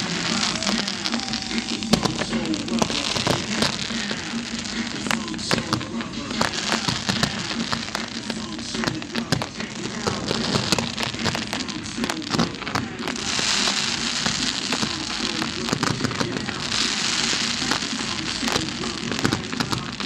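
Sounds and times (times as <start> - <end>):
fireworks crackling and popping: 0.0 - 20.0
fireworks hissing: 0.0 - 20.0.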